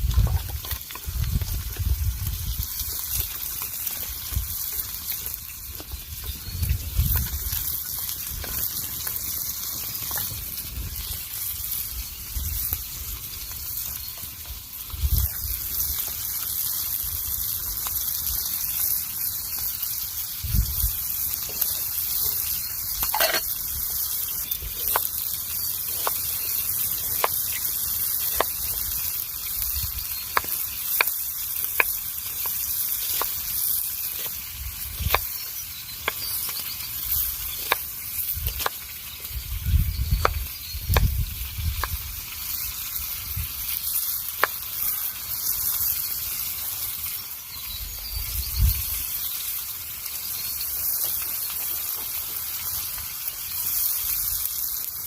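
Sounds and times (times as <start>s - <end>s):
campfire hissing: 0.0s - 55.0s
fire crackles and pops: 0.0s - 55.0s.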